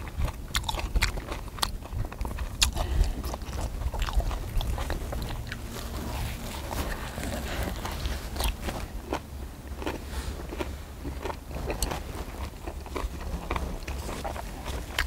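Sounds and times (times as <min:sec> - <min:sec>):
chewing with wet mouth clicks: 0:00.0 - 0:15.0
low steady rumble: 0:00.0 - 0:15.0.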